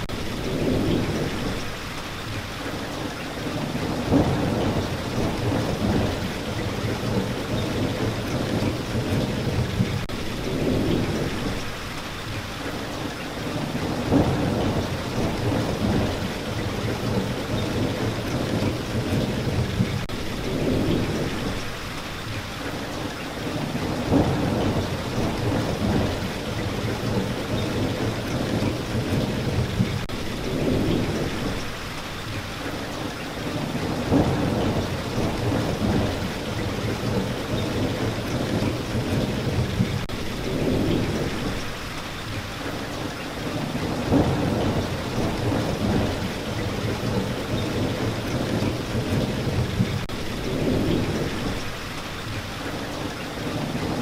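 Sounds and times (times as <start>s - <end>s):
low thunder rumbles: 0.0s - 1.8s, 3.4s - 11.8s, 13.5s - 21.8s, 23.5s - 31.8s, 33.5s - 41.8s, 43.4s - 51.8s
steady rain falling: 0.0s - 54.0s.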